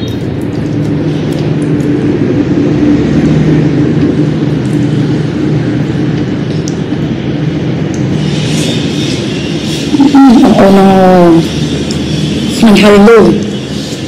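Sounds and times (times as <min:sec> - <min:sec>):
loud low drone with hum: 0:00.0 - 0:14.0.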